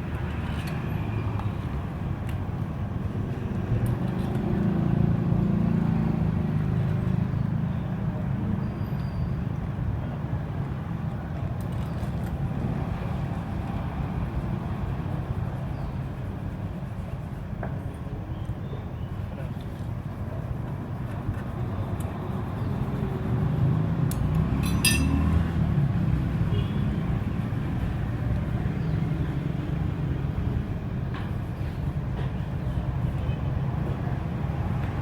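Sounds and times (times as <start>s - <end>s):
motor traffic rumble: 0.0s - 35.0s.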